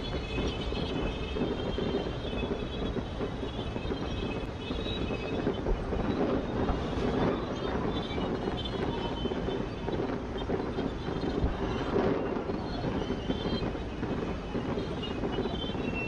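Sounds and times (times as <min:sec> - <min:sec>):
fireworks rumble and crackle: 0:00.0 - 0:16.0.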